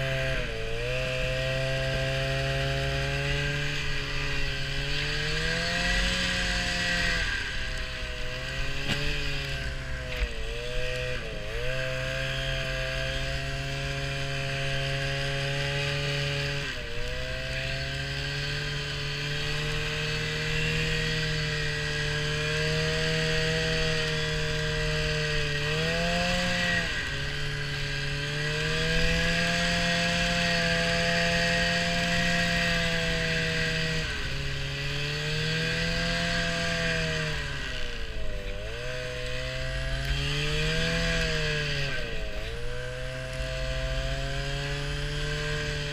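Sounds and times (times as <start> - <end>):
small vehicle engine running: 0.0 - 45.9.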